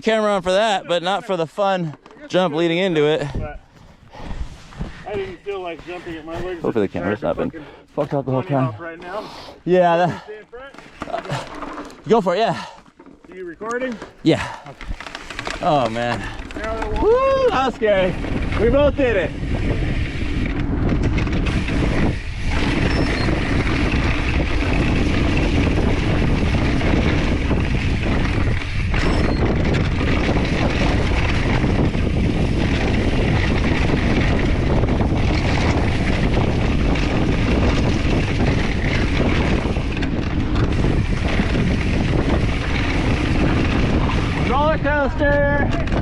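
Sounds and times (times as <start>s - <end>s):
bike tyre rumble on dirt trail: 0.0s - 9.2s, 9.9s - 46.0s
wind rushing over microphone: 2.6s - 8.8s, 14.3s - 46.0s.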